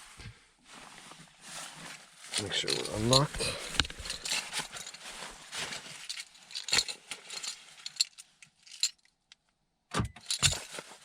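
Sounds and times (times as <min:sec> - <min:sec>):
rustling: 0:00.0 - 0:08.9, 0:10.2 - 0:11.0.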